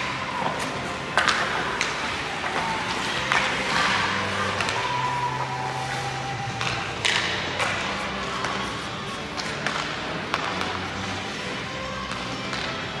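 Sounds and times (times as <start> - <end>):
faint background music: 0.0 - 13.0
hockey pucks cracking off sticks: 0.0 - 13.0
skate blades scraping ice: 0.0 - 13.0.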